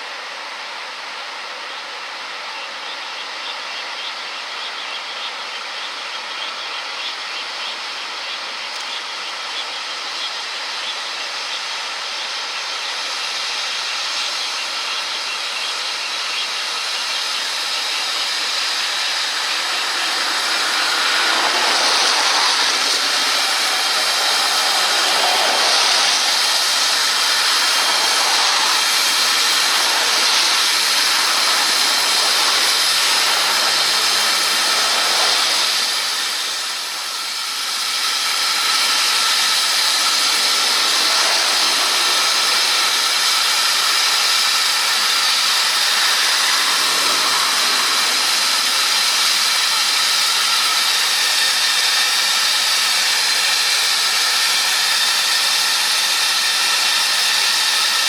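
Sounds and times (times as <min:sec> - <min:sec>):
steam locomotive hissing and rushing: 0:10.0 - 0:58.0.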